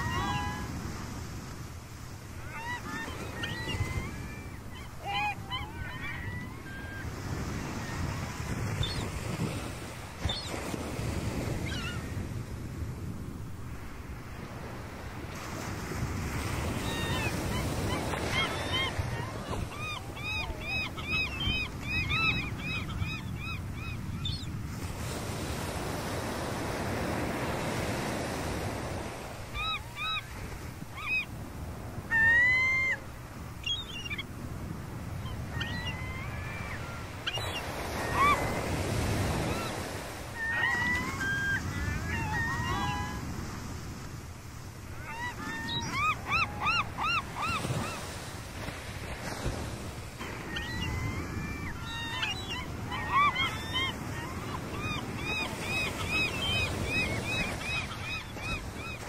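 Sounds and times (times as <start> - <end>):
gulls calling: 0.0 - 1.0, 2.3 - 10.8, 16.5 - 43.6, 44.8 - 59.0
waves breaking: 0.0 - 59.0.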